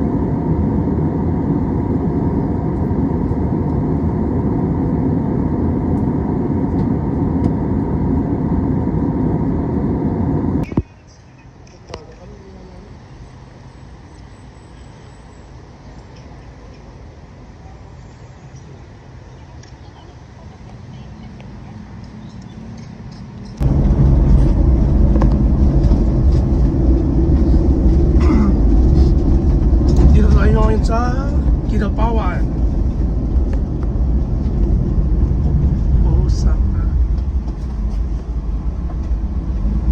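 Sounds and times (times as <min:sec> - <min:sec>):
road and wind noise: 0:00.0 - 0:39.9
vehicle running noise: 0:00.0 - 0:39.9.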